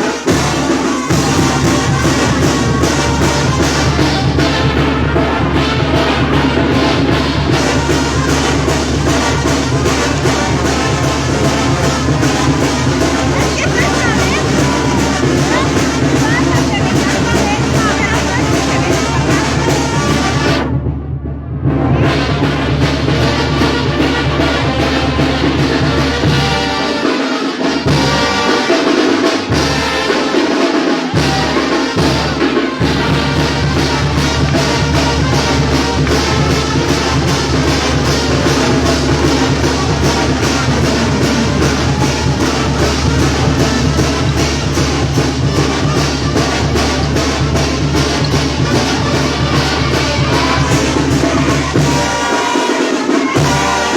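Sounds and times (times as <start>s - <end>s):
brass band music: 0.0s - 53.9s
steady drumbeat: 0.0s - 53.9s.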